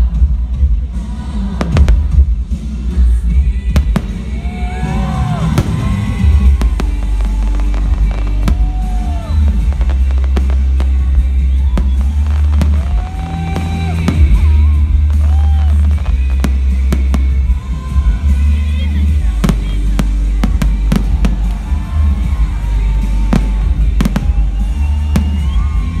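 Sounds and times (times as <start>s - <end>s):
loud music with heavy bass: 0.0s - 26.0s
fireworks bursting and crackling: 0.1s - 26.0s.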